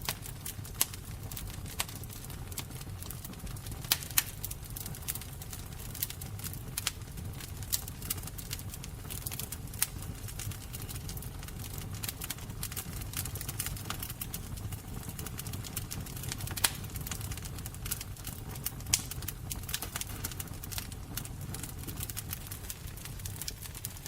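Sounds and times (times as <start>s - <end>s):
loud fire pops: 0.0s - 24.0s
low fire rumble: 0.0s - 24.0s
wood fire crackling: 0.0s - 24.0s.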